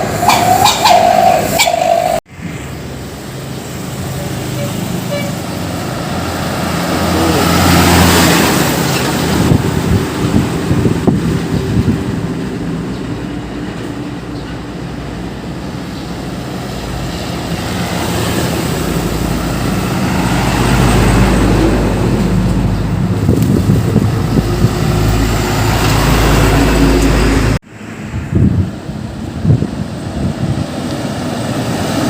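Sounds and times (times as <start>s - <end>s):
heavy trucks driving past: 0.0s - 32.0s.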